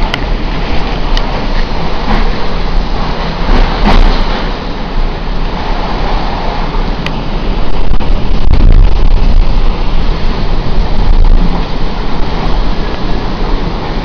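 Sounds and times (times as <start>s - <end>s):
heavy rain: 0.0s - 14.0s
wind buffeting microphone: 0.0s - 14.0s.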